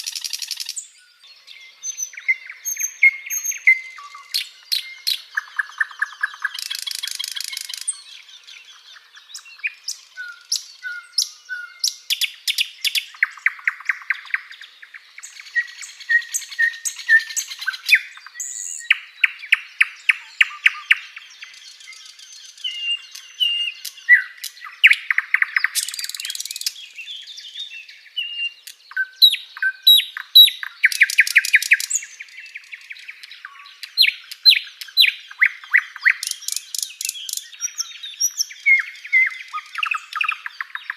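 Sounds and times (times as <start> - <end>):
bird song with trills and whistles: 0.0 - 40.9.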